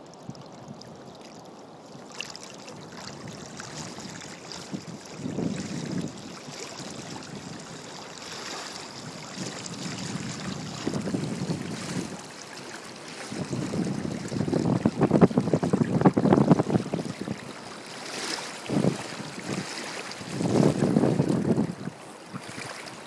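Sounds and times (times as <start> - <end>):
water lapping: 0.0 - 23.0
wind noise on microphone: 2.8 - 12.4, 13.1 - 23.0.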